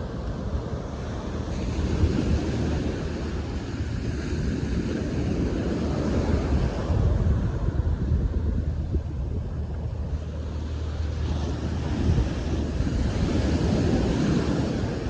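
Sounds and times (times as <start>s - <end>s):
ocean surf: 0.0s - 15.0s
wind buffeting microphone: 0.0s - 15.0s.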